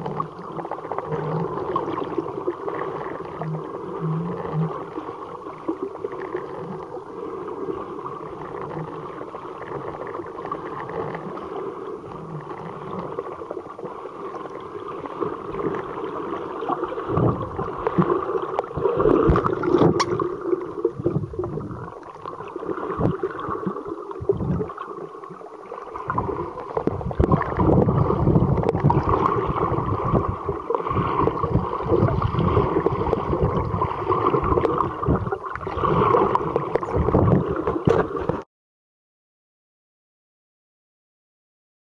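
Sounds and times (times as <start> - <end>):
muffled underwater water wash: 0.0 - 38.5.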